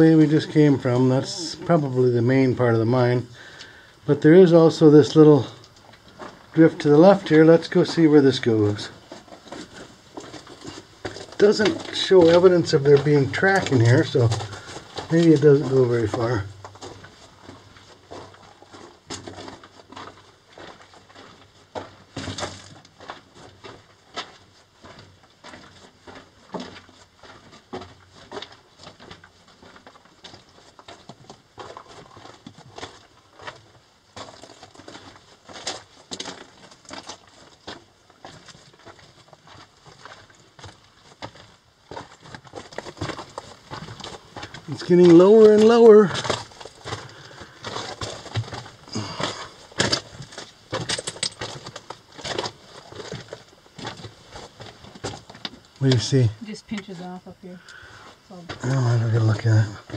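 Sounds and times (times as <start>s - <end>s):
footsteps crunching on gravel: 0.0s - 57.1s.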